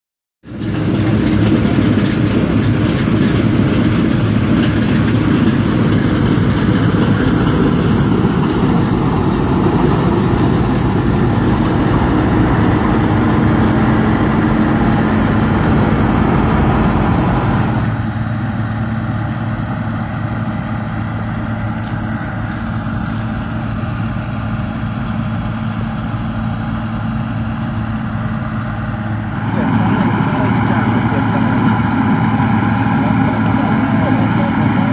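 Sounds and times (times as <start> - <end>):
combine harvester engine drone: 0.4 - 34.9.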